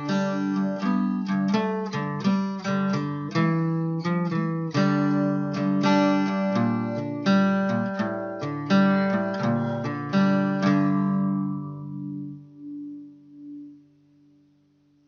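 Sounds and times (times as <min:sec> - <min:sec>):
acoustic guitar strummed chords: 0:00.0 - 0:14.2.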